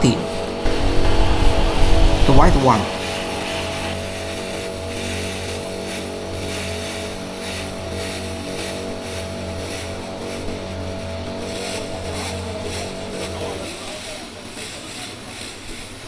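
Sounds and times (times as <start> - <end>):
low machine hum: 0.0 - 16.0
laser cleaning hiss: 0.2 - 16.0.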